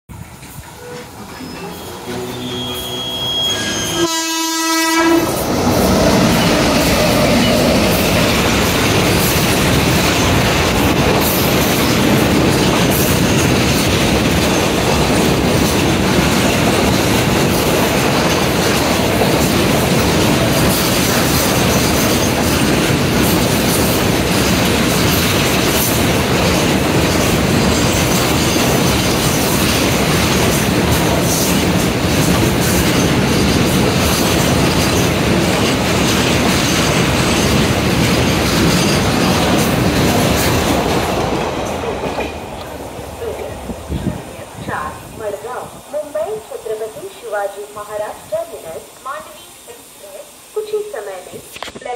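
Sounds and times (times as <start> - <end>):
train wheels rumbling and clattering: 0.1 - 49.4.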